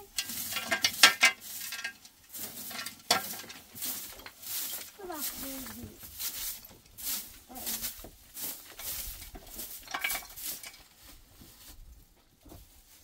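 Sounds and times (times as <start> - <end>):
scraping and clattering objects: 0.0 - 13.0.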